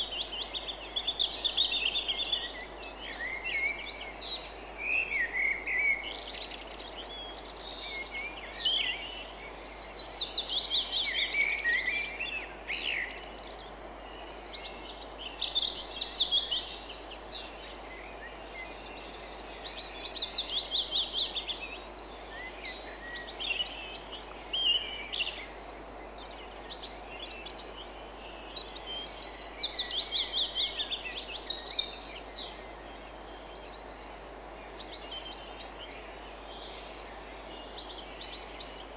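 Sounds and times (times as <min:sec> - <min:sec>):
songbirds singing: 0:00.0 - 0:38.9
steady background hiss: 0:00.0 - 0:38.9.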